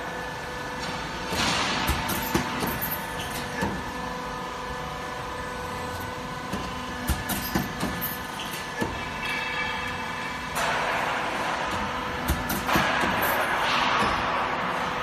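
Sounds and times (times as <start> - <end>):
roll forming machine humming: 0.0 - 15.0.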